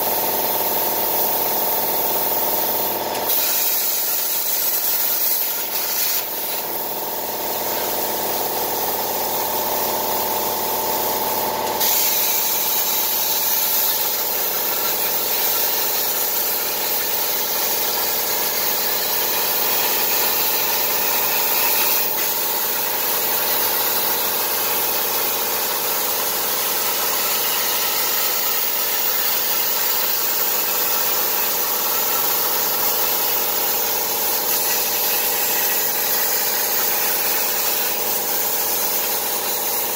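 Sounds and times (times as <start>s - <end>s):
plasma cutter arc hissing: 0.0s - 39.9s.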